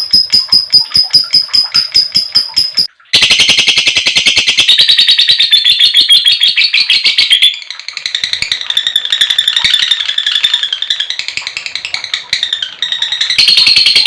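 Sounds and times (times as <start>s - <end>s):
lovebird chattering shrill chirps: 0.0s - 14.0s.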